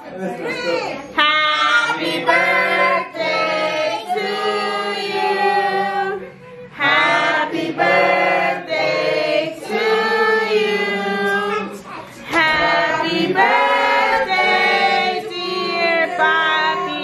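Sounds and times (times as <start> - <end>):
group singing in unison: 1.3 - 17.0.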